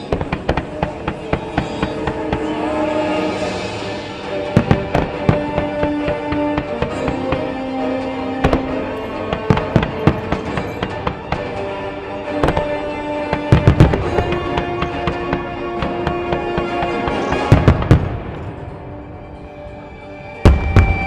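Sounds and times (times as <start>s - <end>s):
firework shells bursting: 0.0s - 18.4s
music playing: 0.0s - 21.0s.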